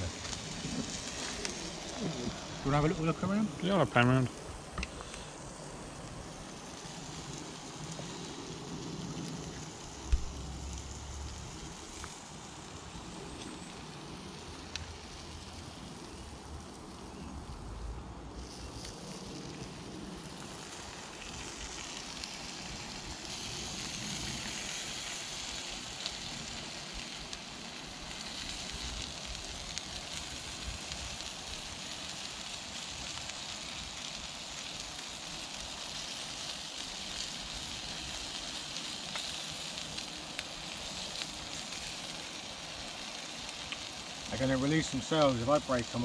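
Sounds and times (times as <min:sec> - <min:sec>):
patties sizzling on griddle: 0:00.0 - 0:46.0.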